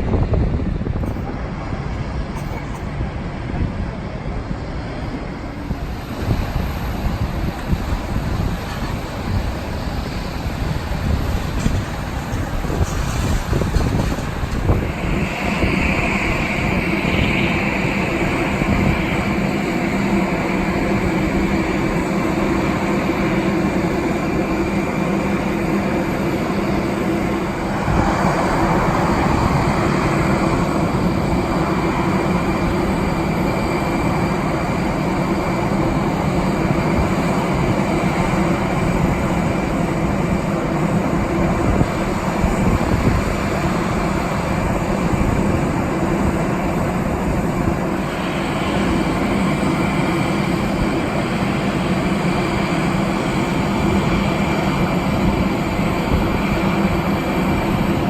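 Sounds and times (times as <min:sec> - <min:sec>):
jet engine whine: 0:00.0 - 0:58.0
low engine drone: 0:00.0 - 0:58.0
rush of engine noise: 0:00.0 - 0:58.0
wind buffeting microphone: 0:00.0 - 0:58.0.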